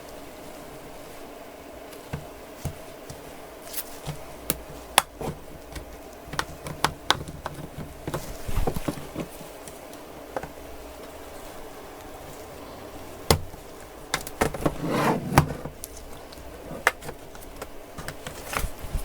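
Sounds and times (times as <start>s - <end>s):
handling noise: 1.8s - 19.0s.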